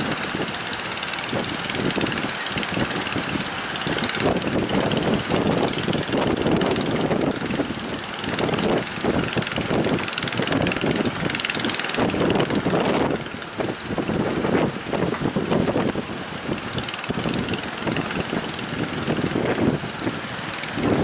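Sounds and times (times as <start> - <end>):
sea waves breaking: 0.0 - 21.0
wind buffeting microphone: 0.0 - 21.0.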